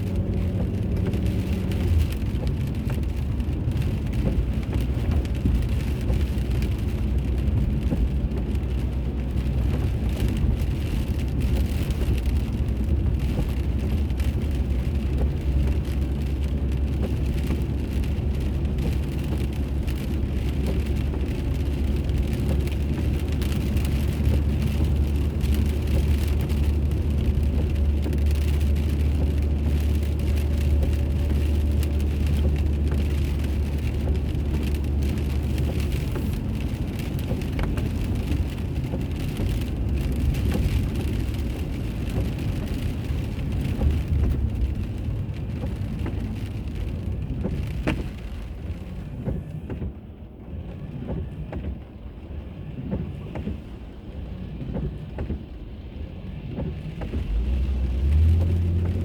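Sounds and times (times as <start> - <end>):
car road hum: 0.0 - 59.0.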